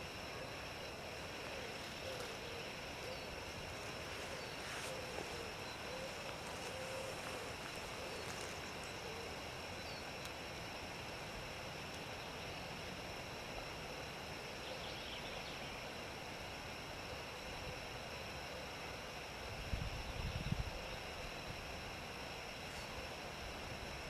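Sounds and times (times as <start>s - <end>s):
background hiss and low rumble: 0.0s - 24.0s.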